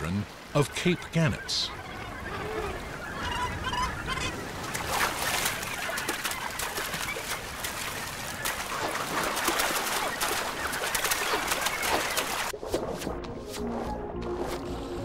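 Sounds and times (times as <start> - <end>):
birds splashing into water: 0.3 - 13.2.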